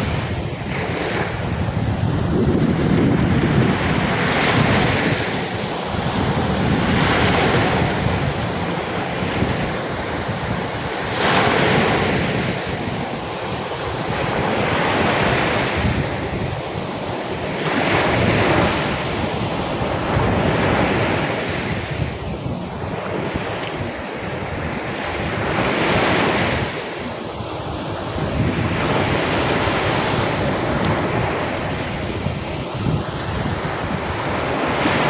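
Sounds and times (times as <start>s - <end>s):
waves breaking on beach: 0.0s - 35.0s
wind rumbling on microphone: 0.0s - 35.0s.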